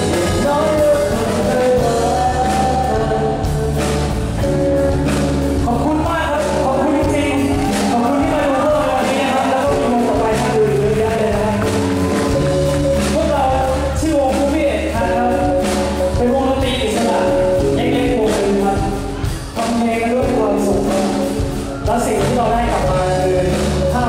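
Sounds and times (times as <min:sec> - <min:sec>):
drum kit beat: 0:00.0 - 0:24.0
electric guitar: 0:00.0 - 0:24.0
man singing: 0:00.0 - 0:24.0.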